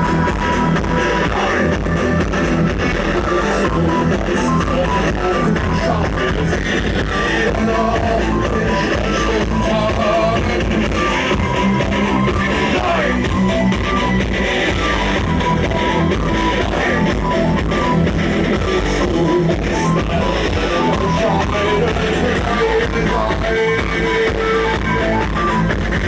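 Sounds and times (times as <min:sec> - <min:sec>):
industrial metal band playing: 0:00.0 - 0:26.0
vocals: 0:00.0 - 0:26.0.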